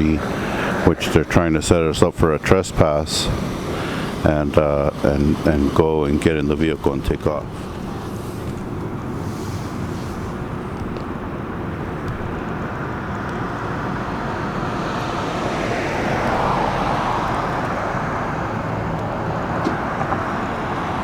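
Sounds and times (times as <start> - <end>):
traffic rumble: 0.0 - 21.0
vehicle passing: 0.0 - 21.0.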